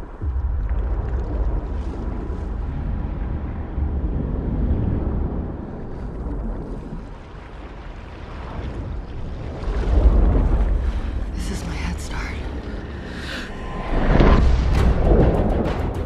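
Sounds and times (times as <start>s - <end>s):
sea water sloshing: 0.0s - 15.2s
deep rumble: 0.0s - 16.0s.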